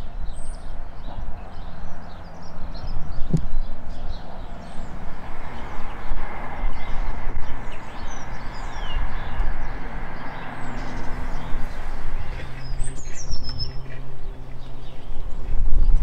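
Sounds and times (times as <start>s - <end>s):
descending bird call: 0.0s - 15.5s
small birds chirping: 0.0s - 16.0s.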